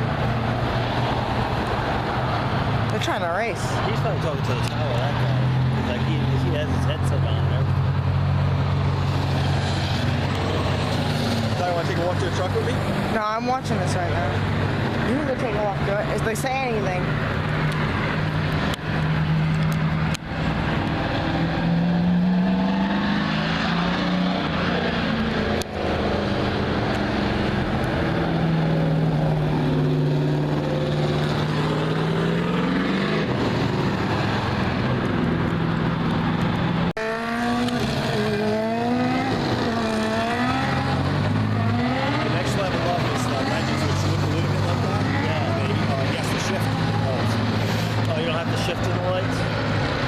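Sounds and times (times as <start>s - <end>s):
race car engines: 0.0s - 50.0s.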